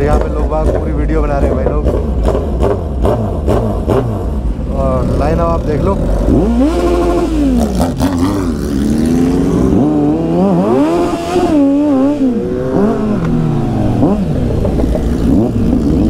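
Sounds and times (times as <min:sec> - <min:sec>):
motorcycles revving: 0:00.0 - 0:16.0.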